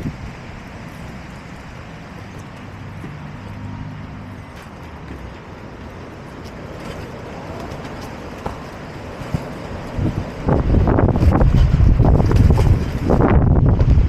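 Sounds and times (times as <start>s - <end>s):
low engine hum: 0.0s - 14.0s
road traffic rumble: 0.0s - 14.0s.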